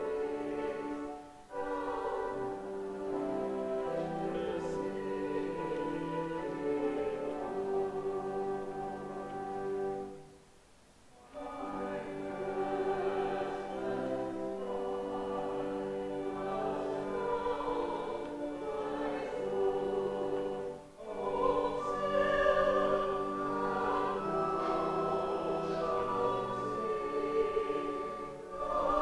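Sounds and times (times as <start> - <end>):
church choir singing a hymn: 0.0 - 10.2, 11.2 - 29.0.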